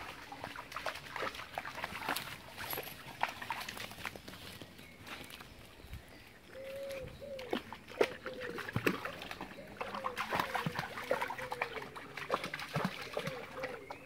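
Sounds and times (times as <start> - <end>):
dog splashing through stream: 0.0 - 5.7, 6.5 - 14.0.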